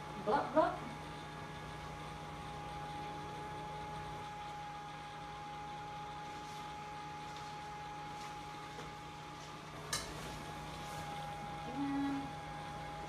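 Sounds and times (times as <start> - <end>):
small electric blower fan whirring: 0.0 - 13.0.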